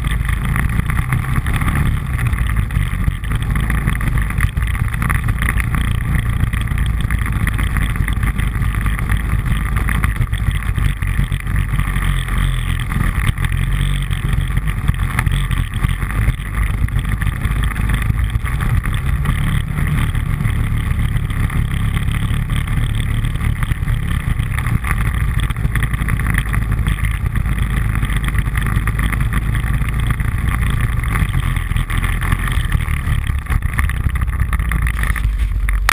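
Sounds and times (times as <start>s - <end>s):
atv engine running: 0.0s - 35.9s
low rumble over rough trail: 0.0s - 35.9s.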